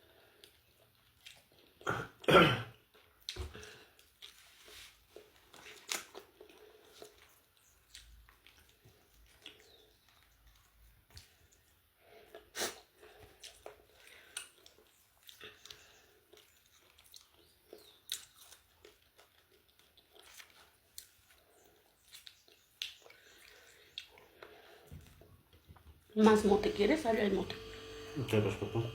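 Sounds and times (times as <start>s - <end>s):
person chewing crunchy food: 0.0s - 25.7s.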